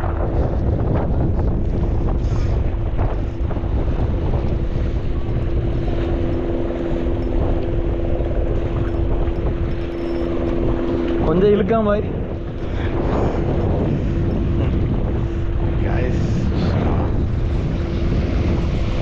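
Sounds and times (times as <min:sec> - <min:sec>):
steady hum: 0:00.0 - 0:19.0
wind buffeting microphone: 0:00.0 - 0:19.0.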